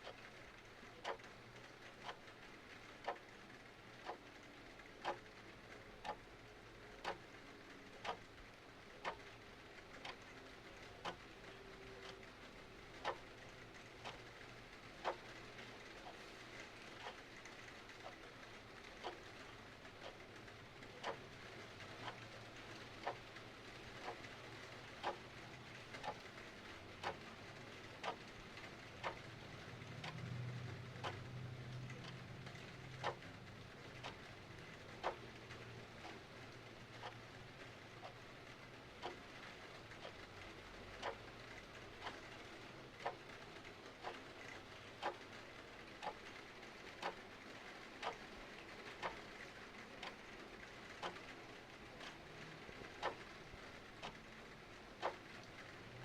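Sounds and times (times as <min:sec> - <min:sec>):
clock ticking: 0:00.0 - 0:56.0
hiss of falling rain: 0:00.0 - 0:56.0.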